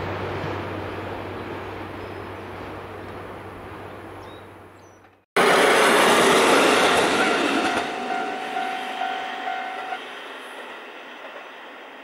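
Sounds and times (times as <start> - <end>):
diesel railcar passing: 0.0 - 12.0.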